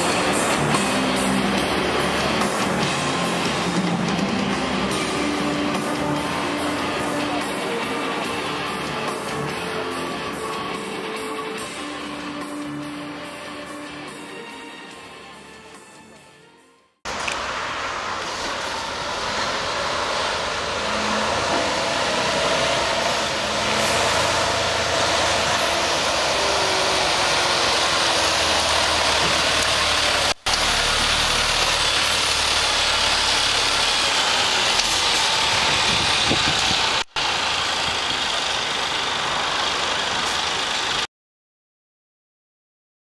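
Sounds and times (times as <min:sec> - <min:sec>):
truck diesel engine rumbling: 0:00.0 - 0:16.2, 0:17.1 - 0:41.1.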